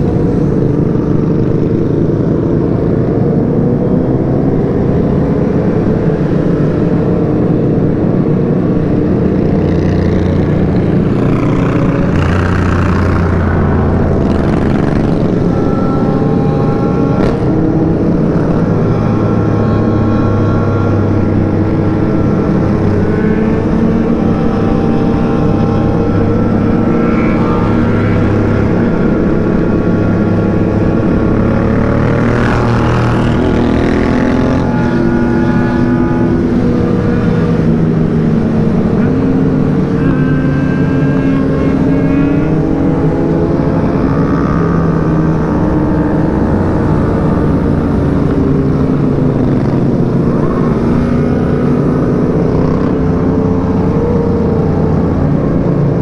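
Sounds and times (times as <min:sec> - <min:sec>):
motorcycle engine cruising: 0:00.0 - 0:56.0
pack of motorcycles riding: 0:00.0 - 0:56.0.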